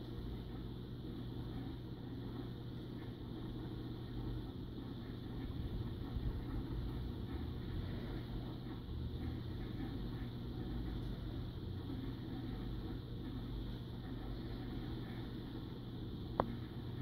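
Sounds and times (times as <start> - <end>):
water pump humming: 0.0 - 17.0.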